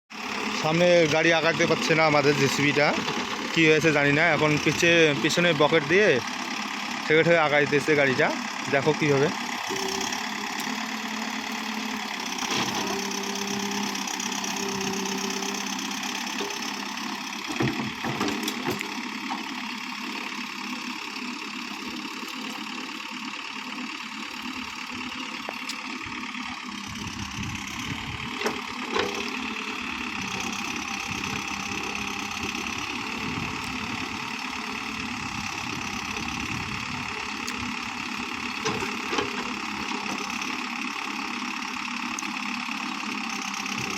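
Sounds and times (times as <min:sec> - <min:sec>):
diesel engine running: 0:00.1 - 0:43.9.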